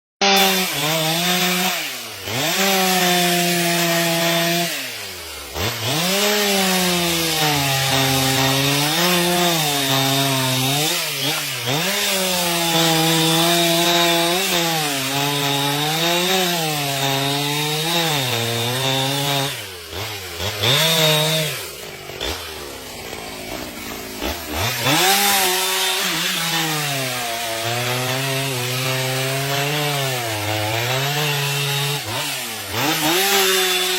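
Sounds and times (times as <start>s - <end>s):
chainsaw cutting into tree: 0.2s - 33.9s.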